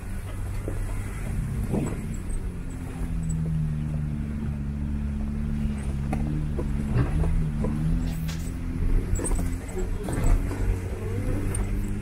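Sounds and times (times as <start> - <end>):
car engine droning: 0.0 - 12.0
tyres on gravel: 0.0 - 12.0.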